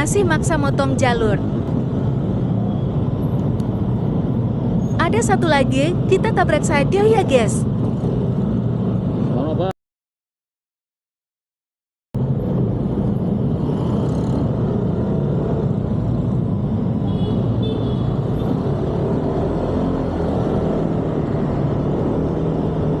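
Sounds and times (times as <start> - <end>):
vehicle engine and road noise: 0.0 - 9.7, 12.2 - 23.0.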